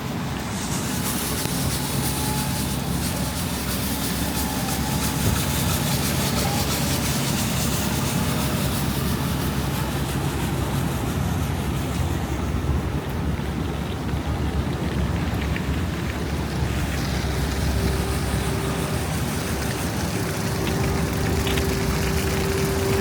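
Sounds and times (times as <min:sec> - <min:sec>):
city street traffic rumble: 0:00.0 - 0:23.0
engine hum: 0:00.0 - 0:23.0
wind: 0:00.0 - 0:23.0.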